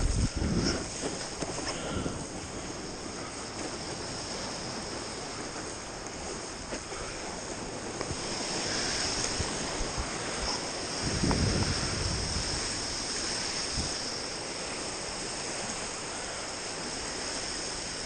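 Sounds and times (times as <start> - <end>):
wind on microphone: 0.0 - 16.1
sea water washing: 0.0 - 18.0.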